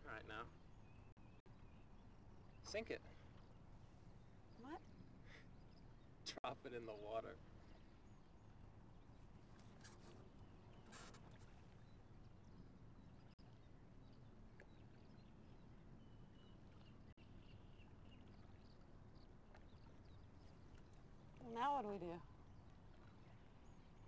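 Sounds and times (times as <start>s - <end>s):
faint bird chirps: 0.0s - 24.0s.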